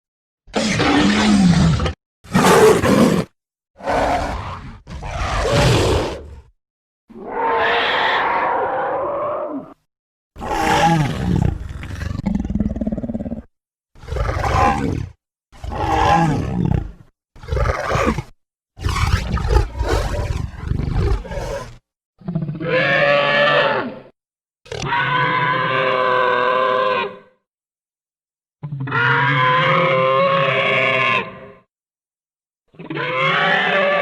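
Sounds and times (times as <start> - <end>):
dinosaur roars and growls: 0.5 - 6.5, 7.1 - 27.4, 28.6 - 31.7, 32.7 - 34.0.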